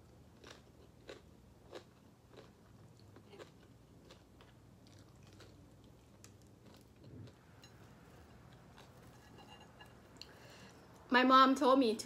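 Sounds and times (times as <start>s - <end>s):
chewing food: 0.3s - 11.1s.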